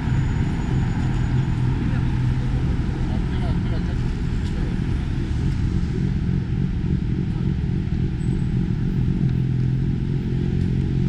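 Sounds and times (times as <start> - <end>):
traffic rumble: 0.0 - 11.0
vehicle engine: 0.0 - 11.0.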